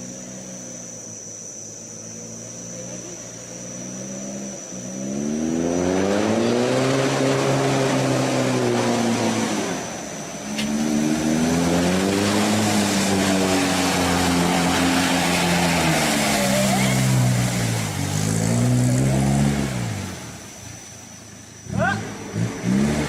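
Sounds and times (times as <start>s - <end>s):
vehicle engine revving: 2.0s - 23.0s.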